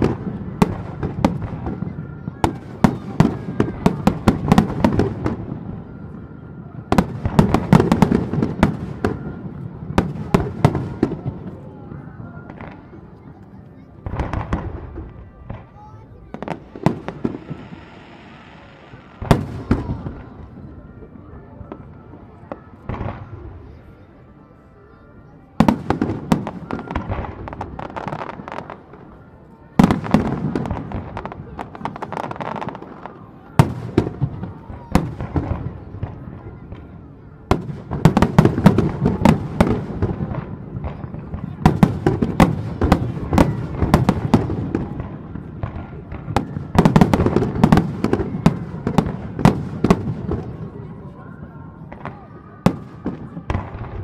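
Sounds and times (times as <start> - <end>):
fireworks cracking and banging: 0.0 - 23.8, 25.5 - 54.0.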